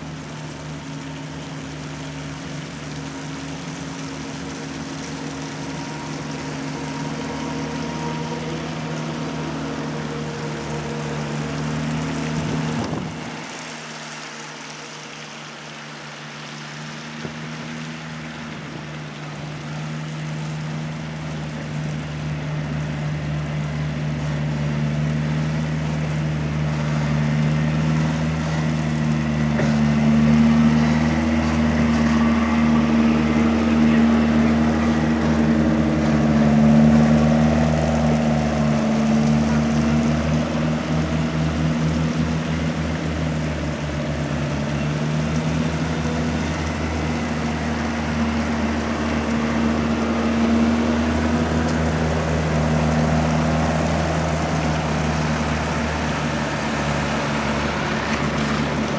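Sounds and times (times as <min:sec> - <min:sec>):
tow tractor engine hum: 0:00.0 - 0:58.9.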